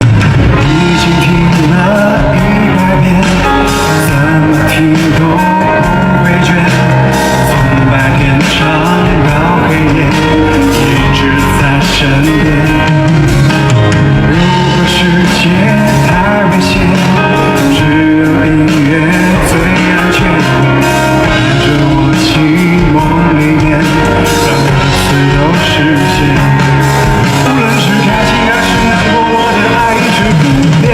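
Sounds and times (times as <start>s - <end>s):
man singing with rock band: 0.0s - 30.9s.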